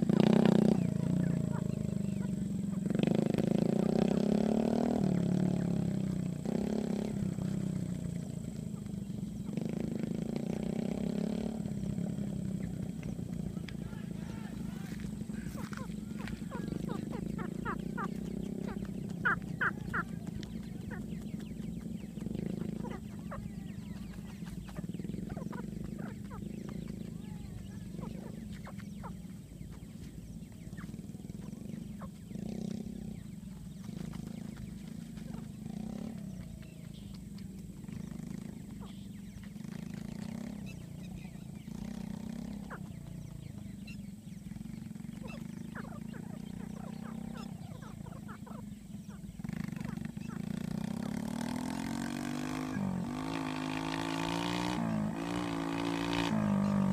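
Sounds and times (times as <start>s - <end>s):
chicks peeping: 0.0s - 56.9s
vehicle engine accelerating: 0.0s - 56.9s.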